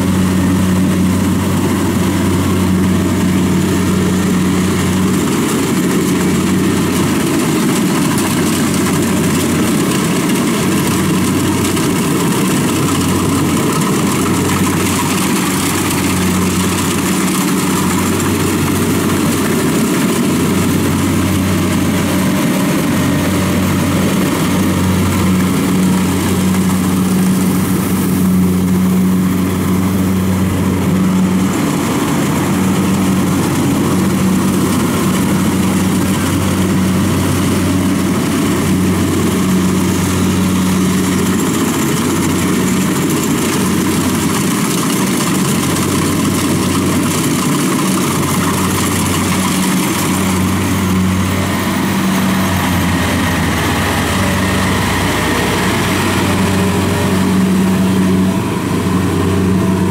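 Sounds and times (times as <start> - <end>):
combine harvester engine droning: 0.0 - 59.9.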